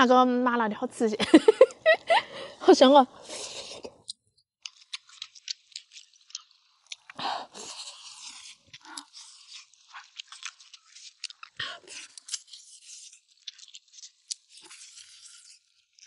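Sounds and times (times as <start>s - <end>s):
person chewing with crunches: 3.1s - 16.0s.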